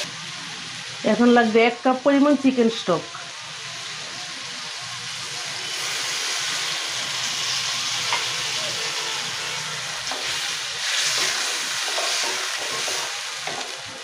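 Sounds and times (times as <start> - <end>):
vegetables sizzling in a wok: 0.0 - 14.0.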